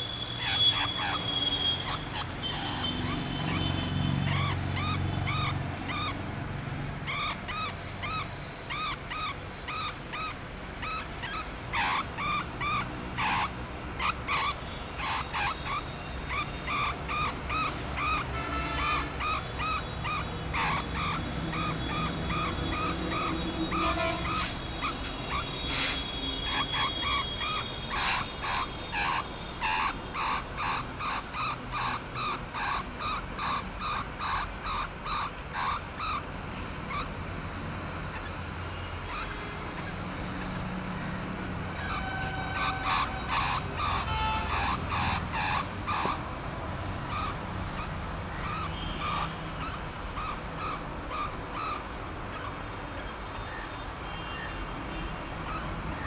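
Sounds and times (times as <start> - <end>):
rat squeaking: 0.0 - 6.3, 7.0 - 37.2, 41.7 - 46.4, 47.0 - 54.5, 55.4 - 56.0.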